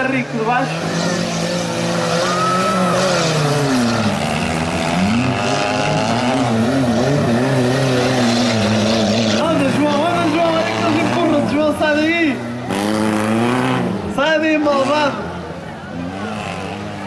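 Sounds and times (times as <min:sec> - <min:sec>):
race car engines revving: 0:00.0 - 0:17.0.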